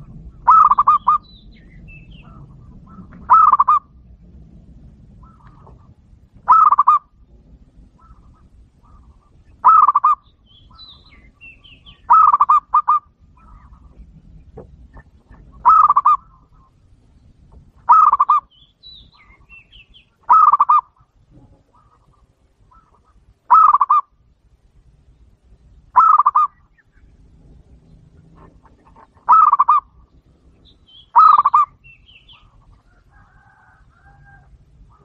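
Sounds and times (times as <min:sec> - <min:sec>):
dove cooing trill: 0:00.0 - 0:04.2, 0:05.1 - 0:16.8, 0:17.8 - 0:24.2, 0:25.9 - 0:30.1, 0:30.8 - 0:35.0
small birds chirping: 0:00.0 - 0:24.1, 0:24.7 - 0:34.2.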